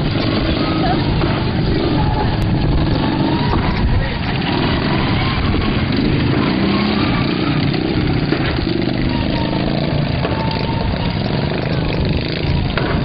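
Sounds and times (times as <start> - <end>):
small racing engines revving: 0.0 - 13.0.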